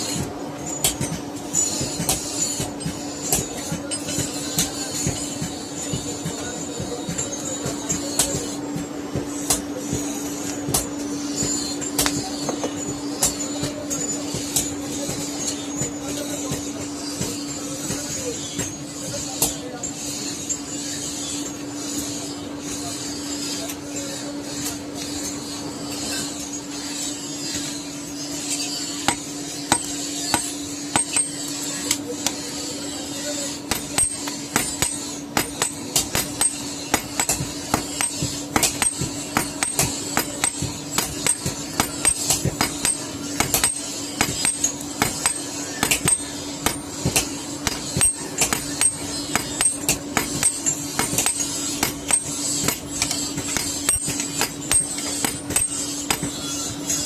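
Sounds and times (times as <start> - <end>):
hammer striking iron on anvil: 0.0 - 18.8, 28.5 - 32.4, 33.3 - 57.0
steady hum: 0.0 - 57.0.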